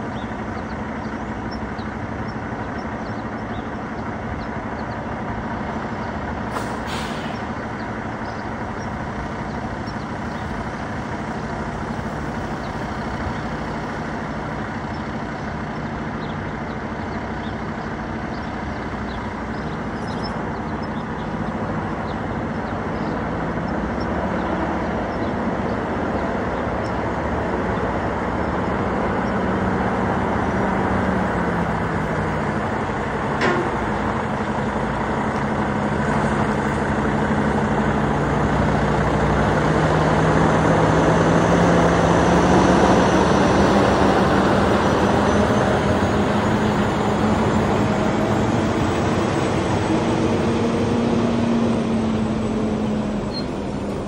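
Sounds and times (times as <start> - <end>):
truck diesel engine: 0.0 - 54.0.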